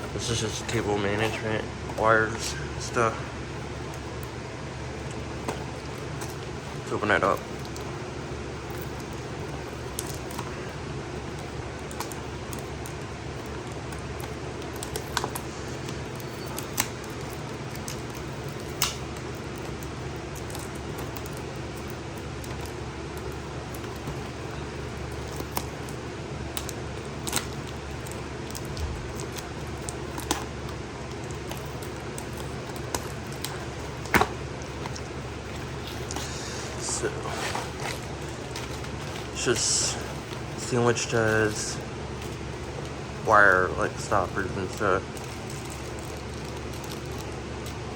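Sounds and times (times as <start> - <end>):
steady low hum: 0.0 - 47.9
package rustling: 3.7 - 47.9.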